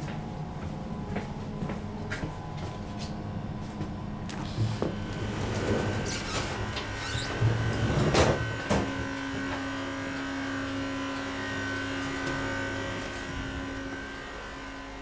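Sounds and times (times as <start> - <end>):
train electric hum: 0.0 - 15.0.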